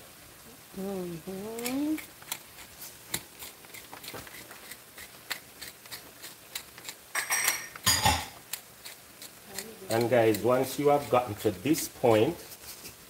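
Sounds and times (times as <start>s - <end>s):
pepper mill grinding: 1.4s - 12.6s.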